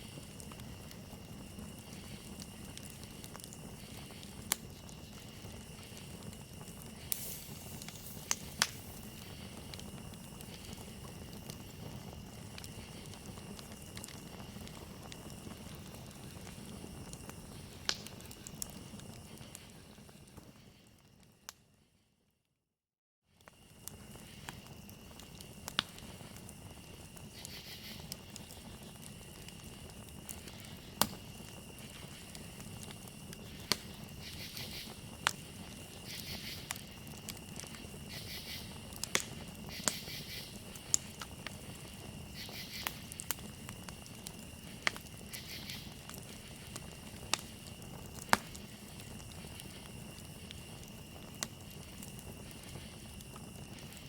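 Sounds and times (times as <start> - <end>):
cricket trill: 0.0 - 21.4, 23.4 - 54.0
campfire crackling and popping: 0.0 - 21.7, 23.4 - 54.0
insect chirping: 0.0 - 21.7, 23.4 - 54.0.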